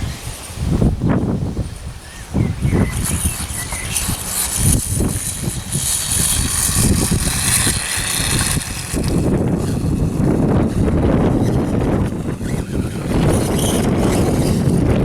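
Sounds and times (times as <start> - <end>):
electric toy motorbike whirring: 0.0 - 15.0
wind buffeting microphone: 0.0 - 15.0.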